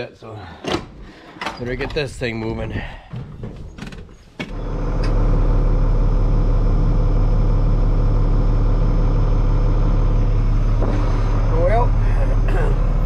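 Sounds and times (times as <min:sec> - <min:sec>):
tractor engine running: 0:01.9 - 0:13.0.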